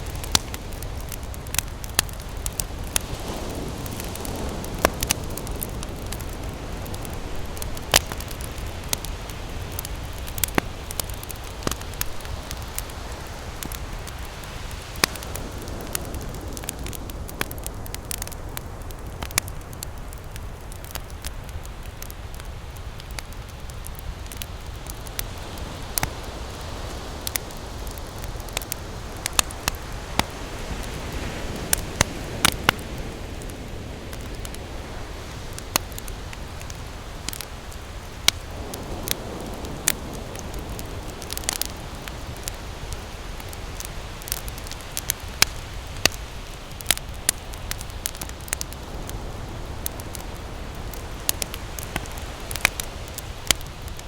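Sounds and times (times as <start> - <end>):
ocean waves: 0.0 - 19.2, 25.2 - 54.0
campfire crackling and popping: 0.0 - 54.0.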